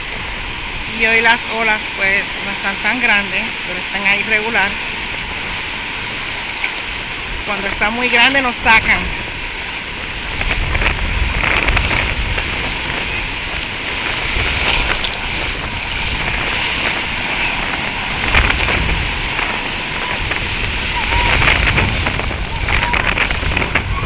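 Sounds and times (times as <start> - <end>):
small waves breaking on sand: 0.0 - 24.0
wind buffeting microphone: 0.0 - 24.0.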